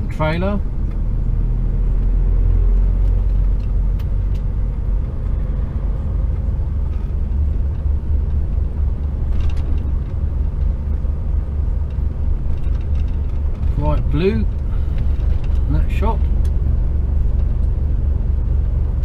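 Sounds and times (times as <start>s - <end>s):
lorry engine and tyres rumbling: 0.0s - 19.0s.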